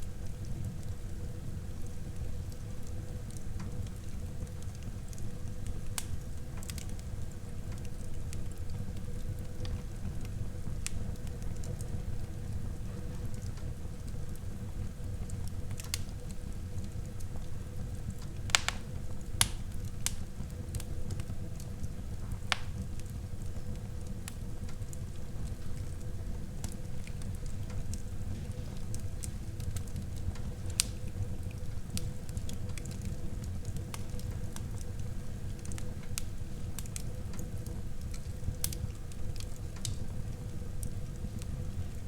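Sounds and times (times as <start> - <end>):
fire crackling and popping: 0.0 - 42.0
fire rumbling: 0.0 - 42.0.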